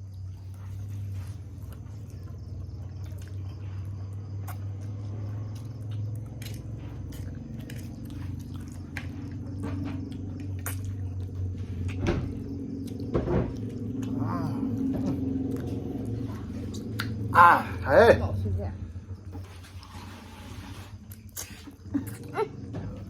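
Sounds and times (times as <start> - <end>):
steady low hum: 0.0 - 23.0
wet slurps and chewing: 0.4 - 17.3, 19.4 - 22.4.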